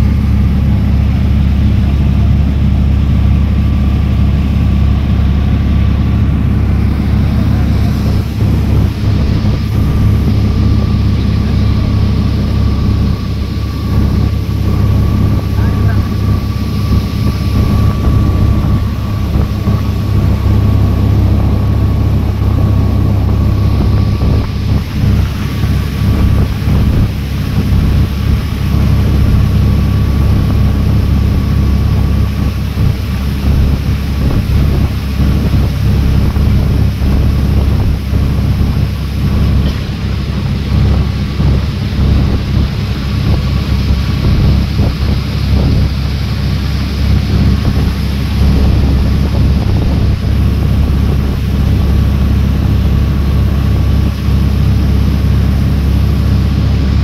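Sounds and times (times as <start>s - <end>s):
boat engine running: 0.0s - 57.0s
wind buffeting microphone: 0.0s - 57.0s.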